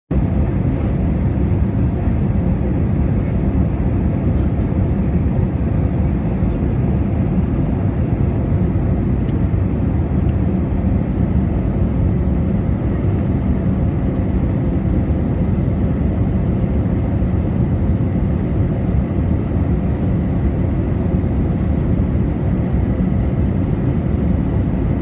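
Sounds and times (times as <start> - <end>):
airliner cabin engine rumble: 0.1 - 25.0.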